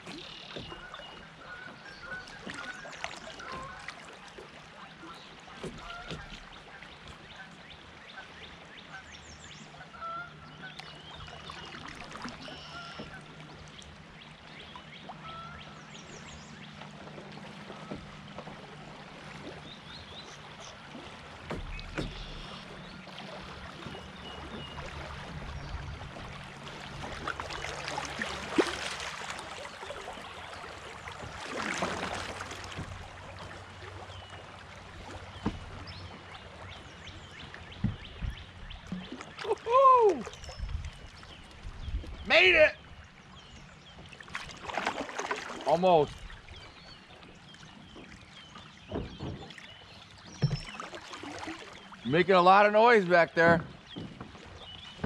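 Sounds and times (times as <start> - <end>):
flowing creek water: 0.0 - 55.0
water splashing past hull: 0.0 - 55.0.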